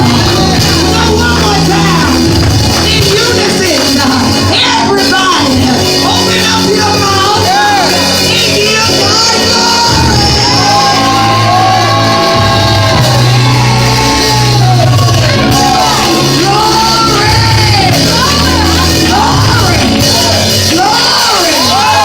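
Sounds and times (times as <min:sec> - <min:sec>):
bass and organ chords: 0:00.0 - 0:22.0.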